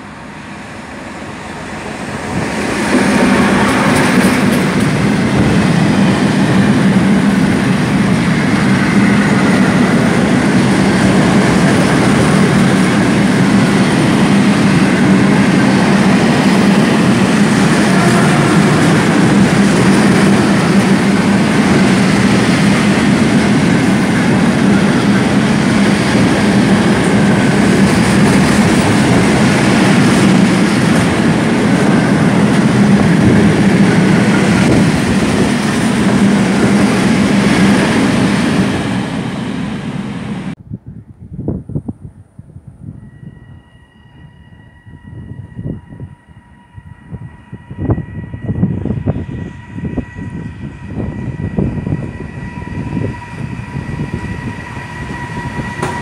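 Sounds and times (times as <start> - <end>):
diesel locomotive passing: 0.0 - 40.6, 41.6 - 56.0.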